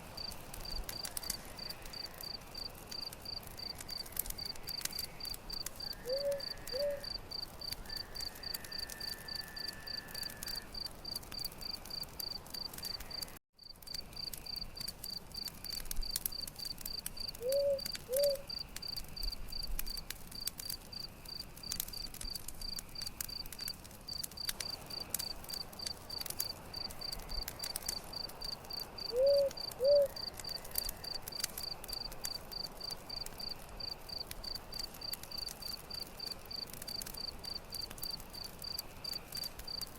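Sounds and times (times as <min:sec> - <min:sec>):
campfire crackling: 0:00.0 - 0:39.9
crickets chirping: 0:00.1 - 0:20.0, 0:24.1 - 0:36.3.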